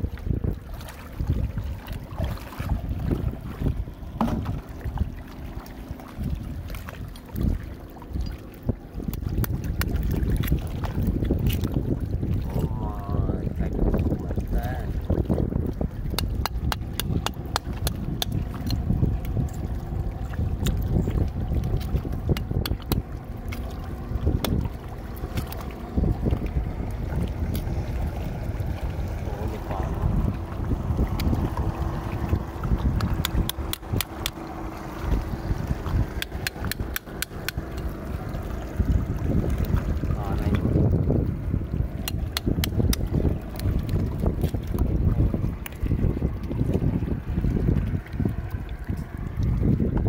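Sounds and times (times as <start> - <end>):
wind rumble on microphone: 0.0 - 50.0.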